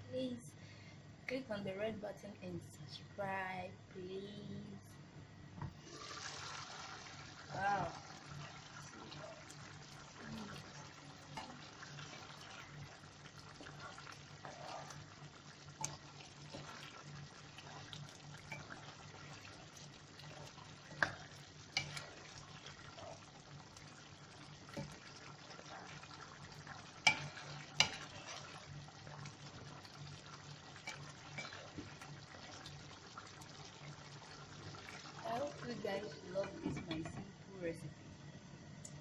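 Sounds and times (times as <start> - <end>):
steady low hum: 0.0 - 5.9, 7.0 - 39.0
stew bubbling in a pan: 5.7 - 37.4.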